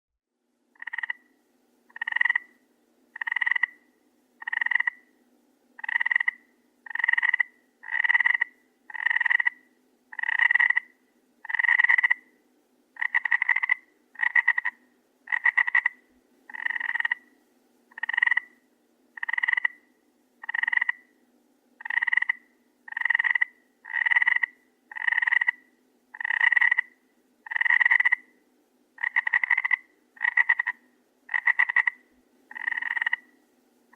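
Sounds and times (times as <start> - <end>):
faint low background hum: 0.3 - 33.9
frog croaking: 0.7 - 5.1, 5.8 - 12.3, 13.0 - 17.3, 17.9 - 18.6, 19.2 - 21.2, 21.8 - 28.4, 29.0 - 33.4.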